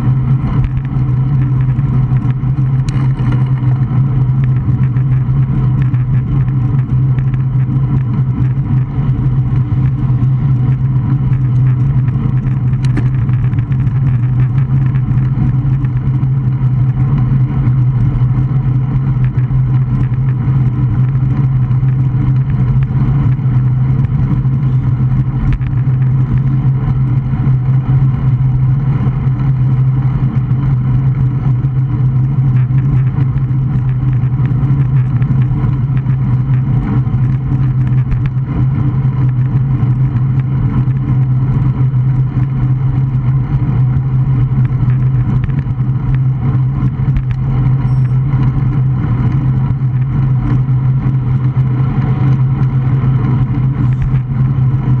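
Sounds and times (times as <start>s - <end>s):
road noise rumble: 0.0s - 55.0s
wind rush on microphone: 0.0s - 55.0s.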